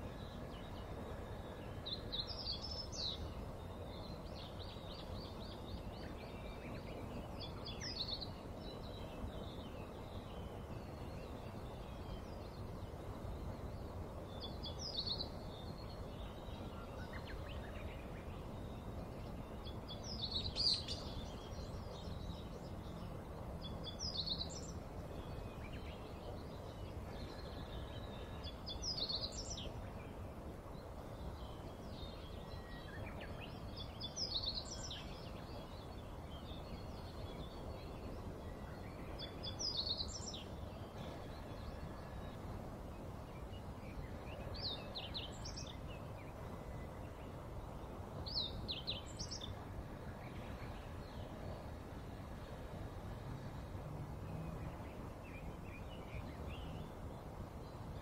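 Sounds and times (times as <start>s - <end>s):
bird twittering trill: 0.0s - 30.2s, 30.8s - 51.8s
low outdoor rumble: 0.0s - 58.0s
small birds chirping: 0.0s - 58.0s.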